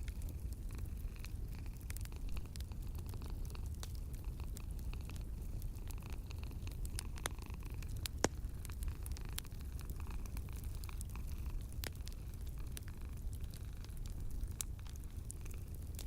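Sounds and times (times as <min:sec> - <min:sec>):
low steady rumble: 0:00.0 - 0:16.0
sharp pops from fire: 0:00.0 - 0:16.0
wood fire crackling: 0:00.0 - 0:16.0.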